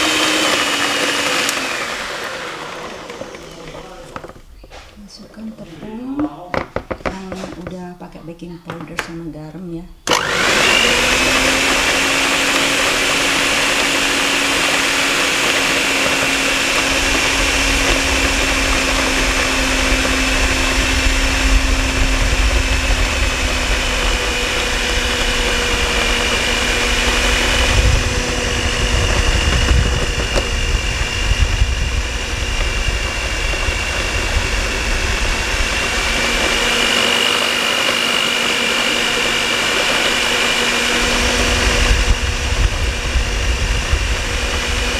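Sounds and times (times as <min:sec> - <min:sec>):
electric mixer whining: 0:00.0 - 0:07.7, 0:10.0 - 0:44.9.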